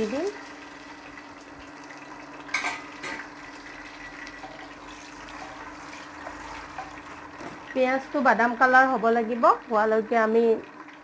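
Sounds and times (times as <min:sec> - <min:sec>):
onions sizzling in oil: 0:00.0 - 0:10.6.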